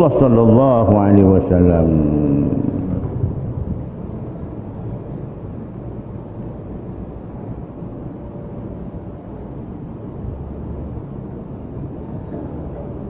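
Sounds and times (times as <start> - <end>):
faint steady hum: 0.0 - 13.0
low room noise rumble: 0.0 - 13.0.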